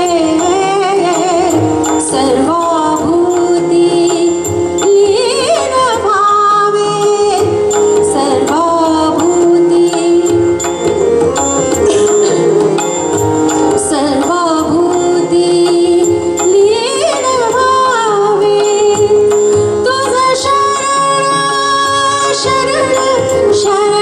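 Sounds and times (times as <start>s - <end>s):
harmonium: 0.0s - 24.0s
tabla playing rhythm: 0.0s - 24.0s
woman singing: 0.0s - 24.0s.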